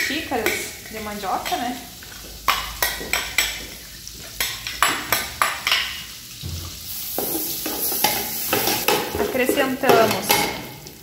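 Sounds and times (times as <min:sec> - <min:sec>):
margarine sizzling in pot: 0:00.0 - 0:11.0.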